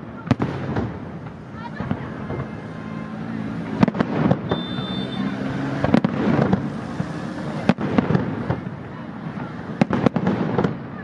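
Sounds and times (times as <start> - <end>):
steady noisy background: 0.0 - 11.0.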